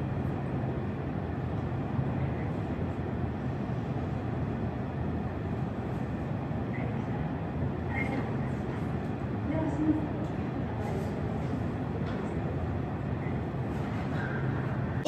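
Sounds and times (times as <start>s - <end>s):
low mechanical rumble with hiss: 0.0s - 15.0s.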